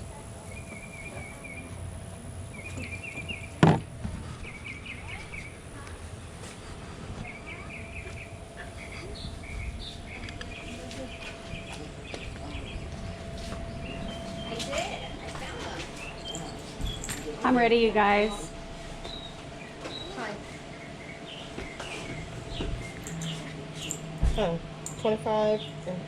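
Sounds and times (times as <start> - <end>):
small birds chirping: 2.5 - 3.6, 4.2 - 24.1.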